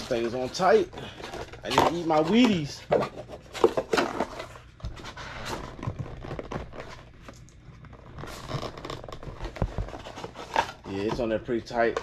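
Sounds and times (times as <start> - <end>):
cardboard rustling: 0.0 - 12.0.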